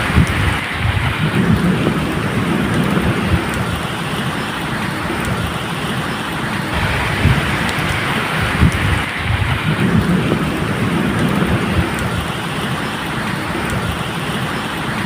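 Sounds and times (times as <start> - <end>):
low rumble of thunder: 0.0 - 5.5, 6.8 - 14.3
rain falling: 0.0 - 15.0.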